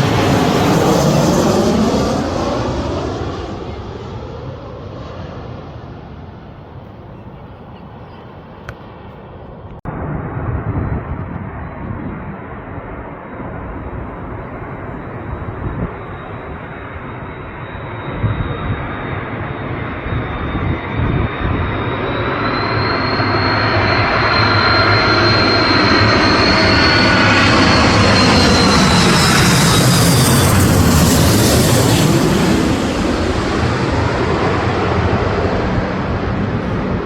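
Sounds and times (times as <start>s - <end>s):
jet airliner engines whining: 0.0s - 37.0s.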